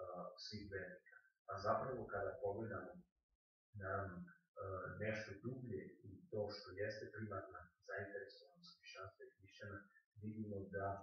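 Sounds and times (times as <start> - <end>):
man speaking: 0.0 - 3.0, 3.8 - 11.0.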